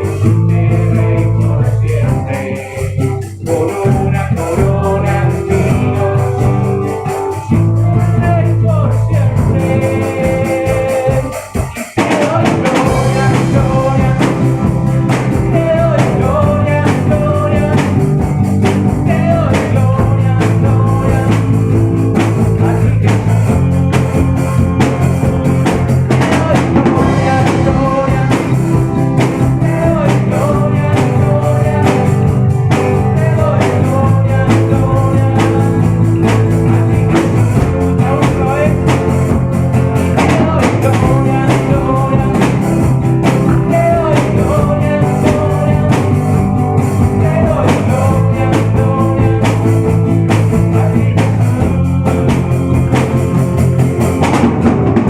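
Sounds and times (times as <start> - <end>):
drum kit: 0.0 - 55.0
steady bass line: 0.0 - 55.0
worship band playing: 0.0 - 55.0.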